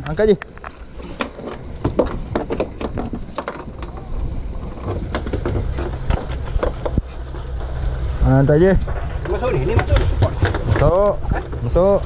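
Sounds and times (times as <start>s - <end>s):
wind and sea rumble: 0.0s - 12.0s.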